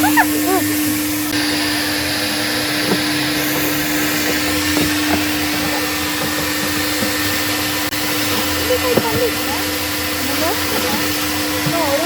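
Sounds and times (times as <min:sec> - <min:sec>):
vacuum hose rushing air: 0:00.0 - 0:12.0.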